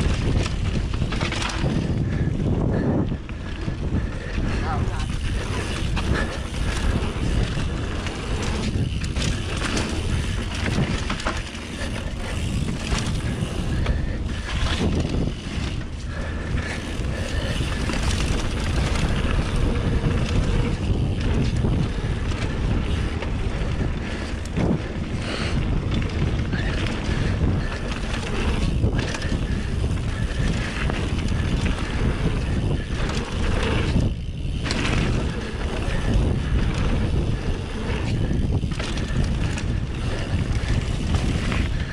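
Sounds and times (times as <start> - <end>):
bike clattering over bumps: 0.0 - 41.9
bike tyres on dirt: 0.0 - 41.9
wind on microphone: 0.0 - 41.9.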